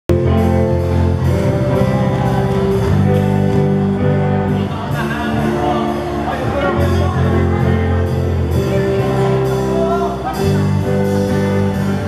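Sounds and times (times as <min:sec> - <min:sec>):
live band playing: 0:00.1 - 0:12.0.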